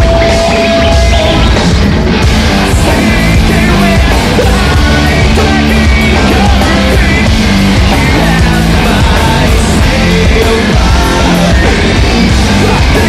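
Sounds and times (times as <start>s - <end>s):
lead singer's voice: 0.0s - 1.8s, 2.4s - 13.0s
live rock band playing: 0.0s - 13.0s.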